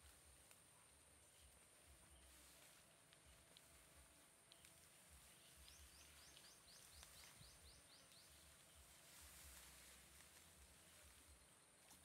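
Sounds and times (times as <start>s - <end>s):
faint high hiss: 0.0s - 12.0s
bird chirping: 0.1s - 12.0s.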